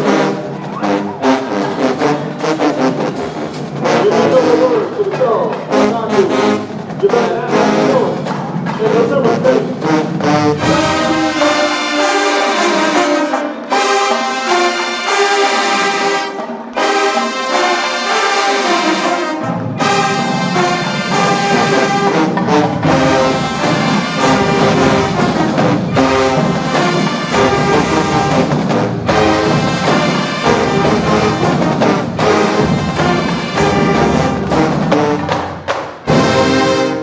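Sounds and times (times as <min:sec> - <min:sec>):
brass playing punchy phrases: 0:00.0 - 0:37.0
marching band playing loudly: 0:00.0 - 0:37.0.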